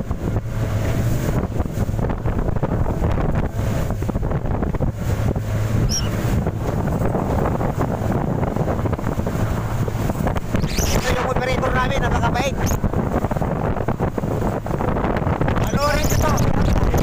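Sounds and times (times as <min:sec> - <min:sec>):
outboard motor humming: 0:00.0 - 0:17.0
water slapping hull: 0:00.0 - 0:17.0
wind buffeting microphone: 0:00.0 - 0:17.0.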